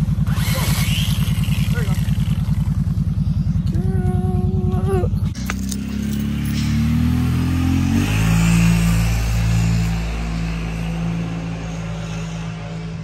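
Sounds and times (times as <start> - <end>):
quad bike engine: 0.0 - 13.0.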